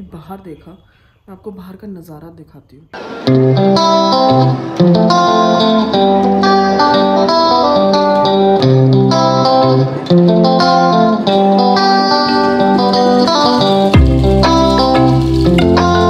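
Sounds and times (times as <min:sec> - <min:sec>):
plucked guitar-like melody: 0:03.0 - 0:16.0.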